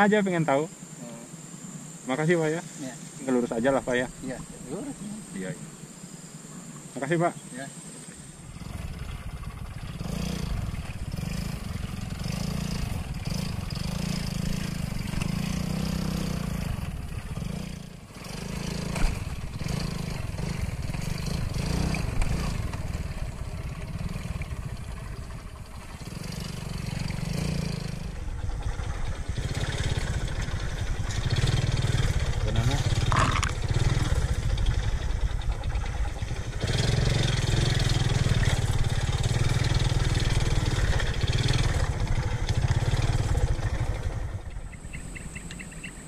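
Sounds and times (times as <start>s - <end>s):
motorcycle engine running: 7.8s - 46.0s.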